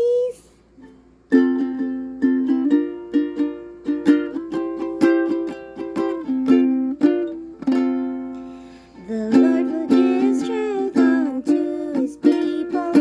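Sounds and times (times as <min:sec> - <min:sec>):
strummed acoustic string instrument: 0:00.8 - 0:13.0.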